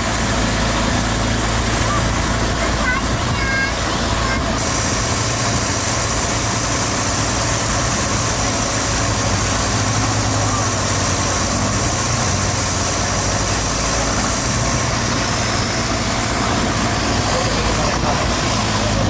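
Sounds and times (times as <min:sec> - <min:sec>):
boat engine humming: 0:00.0 - 0:19.0
broad rushing noise: 0:00.0 - 0:19.0.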